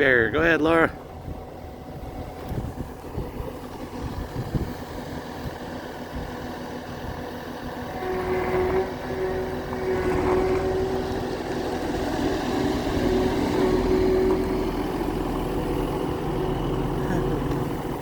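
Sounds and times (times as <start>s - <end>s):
farm machine engine humming: 0.0s - 18.0s.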